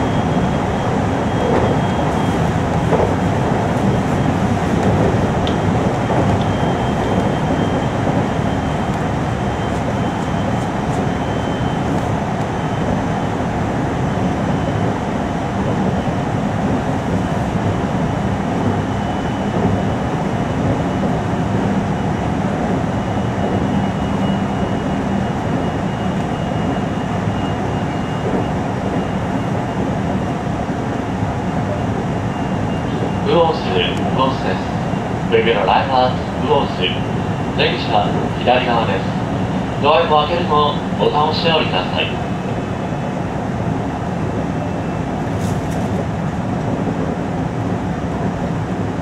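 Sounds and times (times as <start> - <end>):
train wheels rumbling on rail: 0.0 - 49.0.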